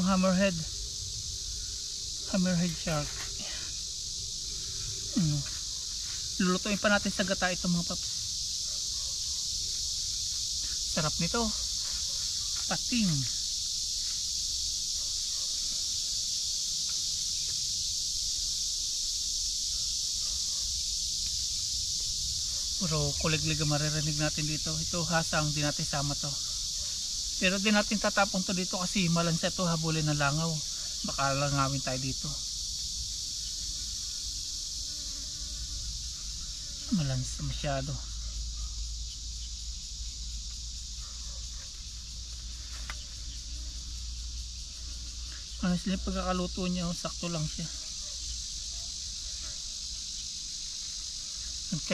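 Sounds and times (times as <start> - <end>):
cicadas droning: 0.0 - 51.9.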